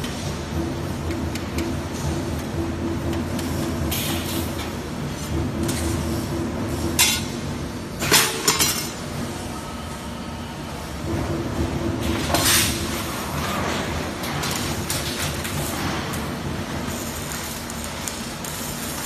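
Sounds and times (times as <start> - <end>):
steady machinery hum: 0.0 - 19.0.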